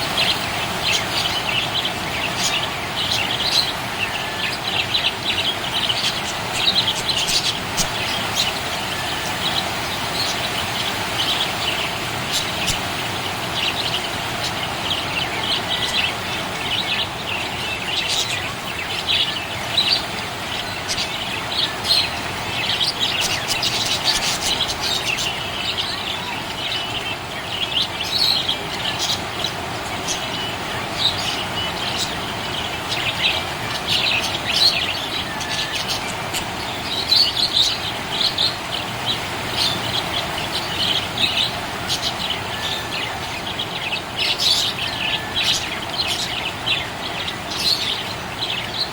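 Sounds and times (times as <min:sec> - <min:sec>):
steady background hiss: 0:00.0 - 0:48.9.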